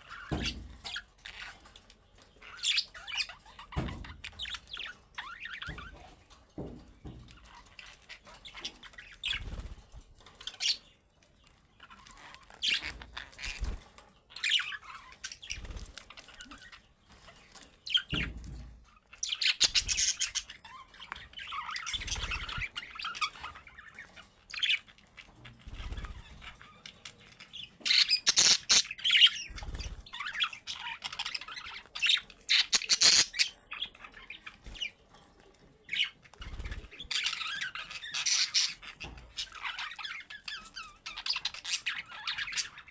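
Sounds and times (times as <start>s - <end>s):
budgerigars chattering and squawking: 0.0s - 35.0s, 35.8s - 42.9s.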